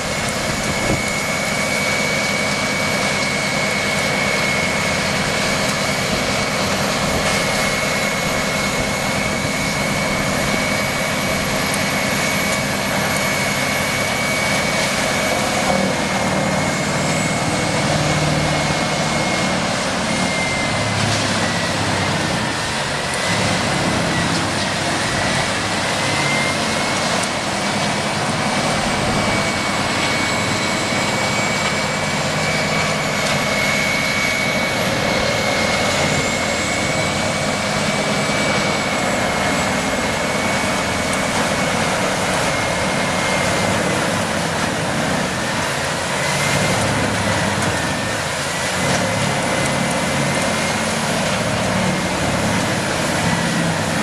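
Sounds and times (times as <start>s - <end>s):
machine engine whining: 0.0s - 54.0s.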